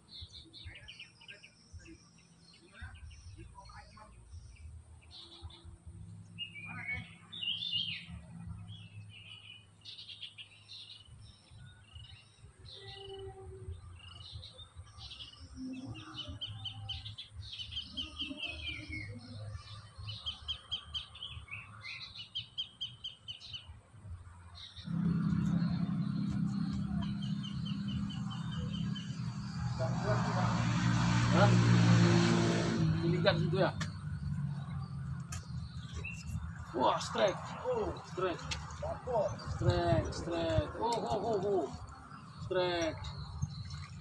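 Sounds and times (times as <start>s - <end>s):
songbirds chirping and trilling: 0.0s - 44.0s.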